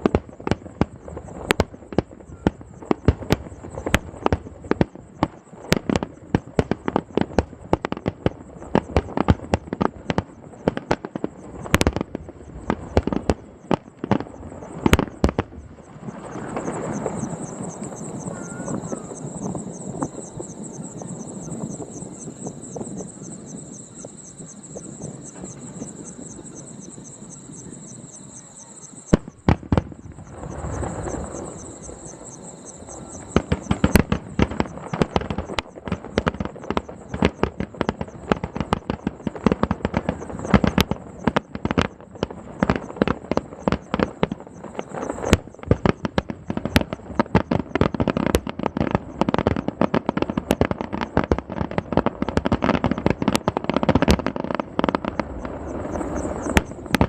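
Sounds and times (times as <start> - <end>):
firework booms: 0.0 - 57.0
insects trilling: 0.0 - 57.0
rapid firework bangs and crackles: 0.0 - 57.0.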